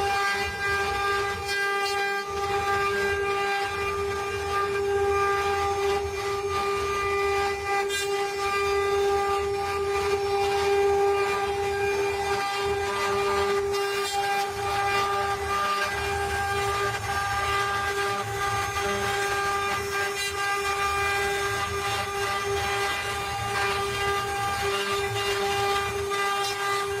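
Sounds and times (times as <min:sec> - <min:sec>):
router spindle whine: 0:00.0 - 0:27.0.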